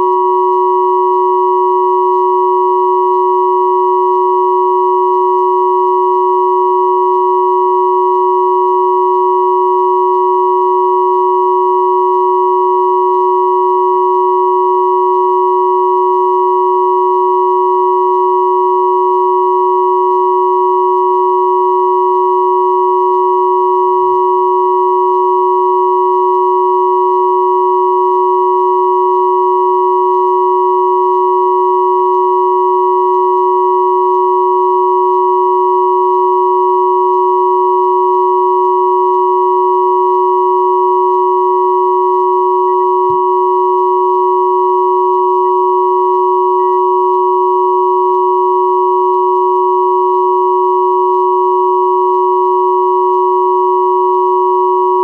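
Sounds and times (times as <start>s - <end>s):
steady sine tones: 0.0s - 55.0s.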